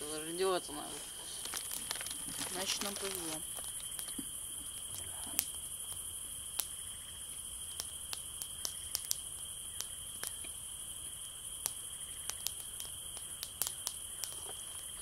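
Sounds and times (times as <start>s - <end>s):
campfire crackling: 0.0s - 15.0s
insects chirring: 0.0s - 15.0s.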